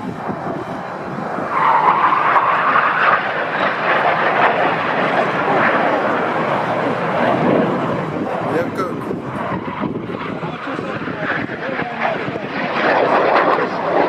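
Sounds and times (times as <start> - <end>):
fighter jets flying past: 0.0 - 14.0.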